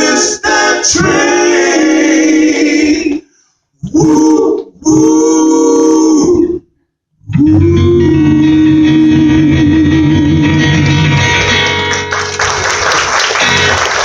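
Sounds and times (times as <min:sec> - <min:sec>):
gospel group music with guitar: 0:00.0 - 0:06.6, 0:07.3 - 0:14.0.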